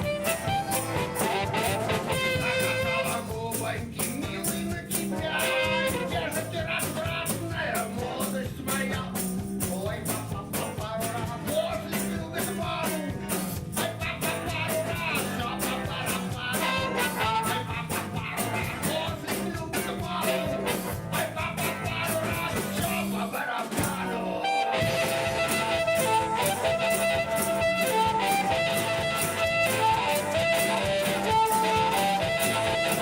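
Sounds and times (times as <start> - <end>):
bass guitar: 0.0 - 33.0
drum beat: 0.0 - 33.0
live rock band playing: 0.0 - 33.0.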